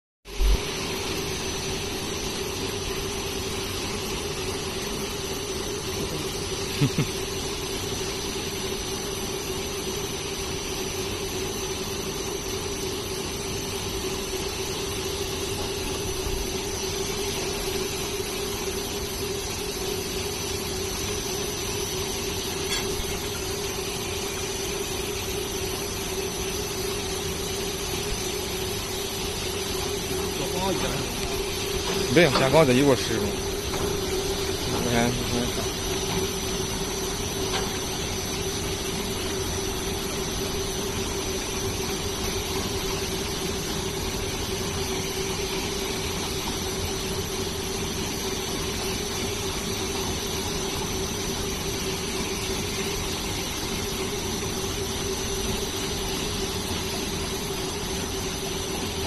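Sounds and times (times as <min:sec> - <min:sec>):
machine brush rollers humming: 0:00.3 - 0:59.0.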